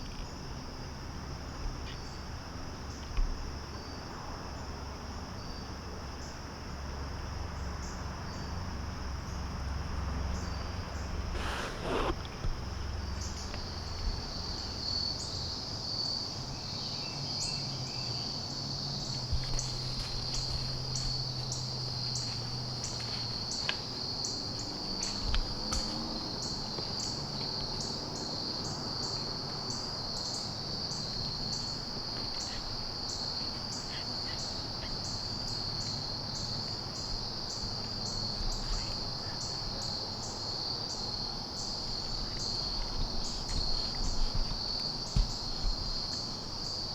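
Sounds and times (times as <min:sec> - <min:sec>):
crickets trilling and chirping: 0:00.0 - 0:46.9.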